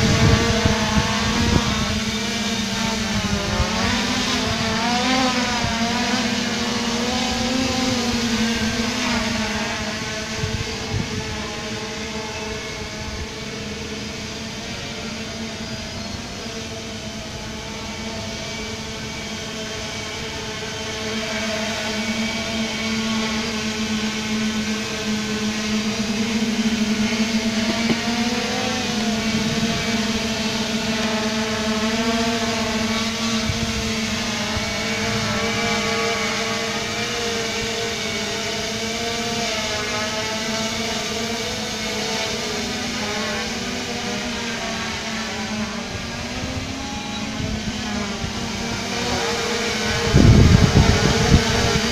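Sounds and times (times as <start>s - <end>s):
drone motors humming: 0.0s - 51.9s.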